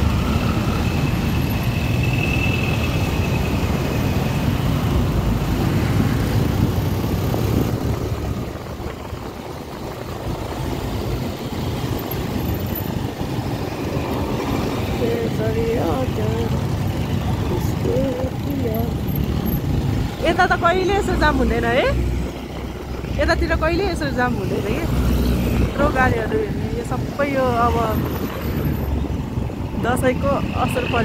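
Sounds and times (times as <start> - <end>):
motorcycle engine rumble: 0.0 - 31.0
road traffic noise: 0.0 - 31.0.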